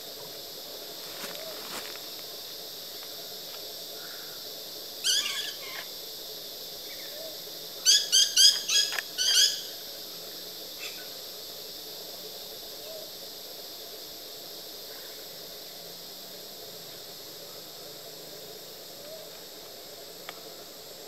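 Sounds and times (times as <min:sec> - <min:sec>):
steady high hiss: 0:00.0 - 0:21.0.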